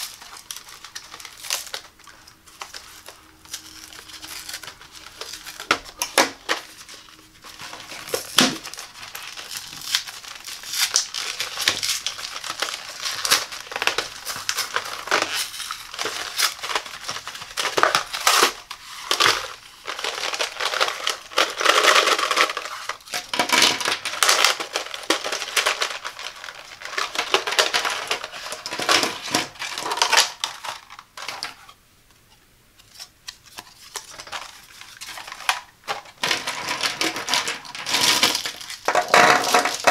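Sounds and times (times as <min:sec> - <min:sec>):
plastic packaging crinkling and snapping: 0:00.0 - 0:31.8, 0:32.7 - 0:39.9.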